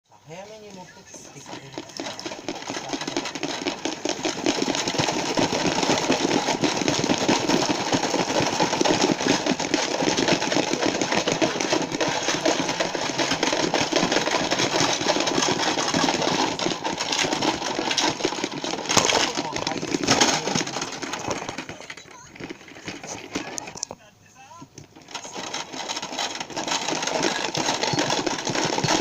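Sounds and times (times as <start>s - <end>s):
plastic toy rattling when shaken: 1.1s - 24.0s, 24.6s - 29.0s.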